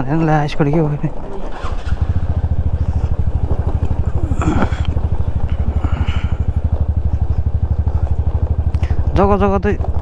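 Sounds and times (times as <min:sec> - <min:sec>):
scooter engine running: 0:00.4 - 0:10.0.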